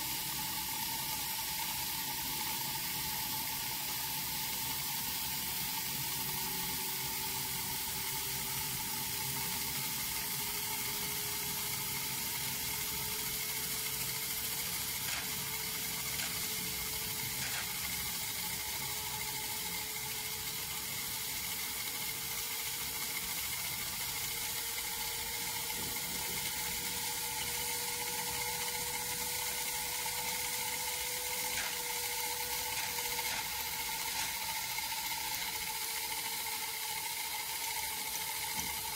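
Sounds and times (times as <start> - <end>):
small turbine wheel whirring: 0.0 - 38.9.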